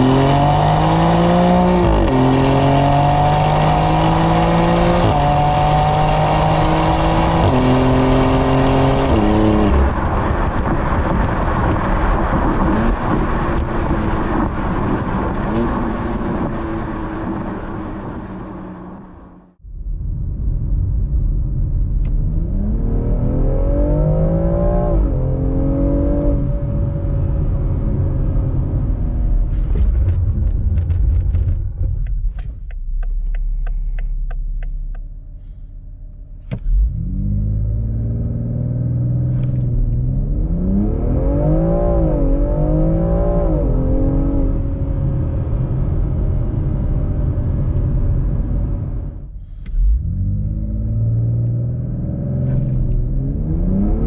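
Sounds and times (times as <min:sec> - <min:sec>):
car engine accelerating hard: 0:00.0 - 0:19.5, 0:22.0 - 0:35.6, 0:36.3 - 0:54.0.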